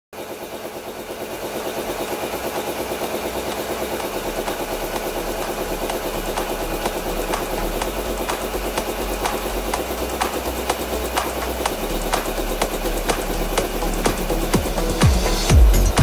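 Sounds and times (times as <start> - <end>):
machine pulsing steadily: 0.2 - 16.0.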